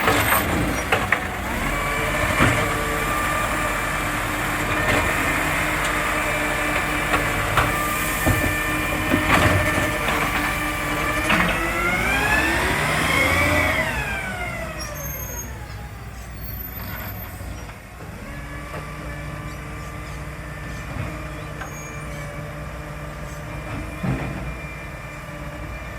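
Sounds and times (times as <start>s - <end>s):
diesel truck engine revving: 0.0s - 25.9s.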